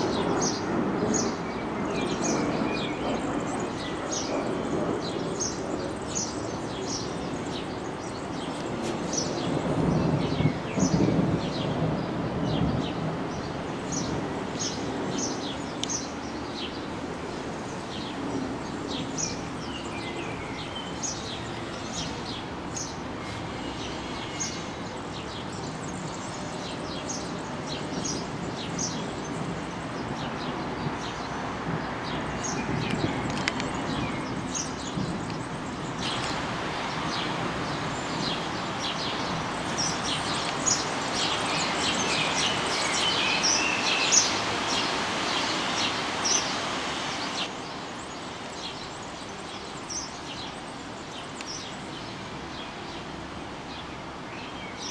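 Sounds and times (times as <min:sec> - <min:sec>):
small birds chirping: 0:00.0 - 0:23.0, 0:23.7 - 0:54.9.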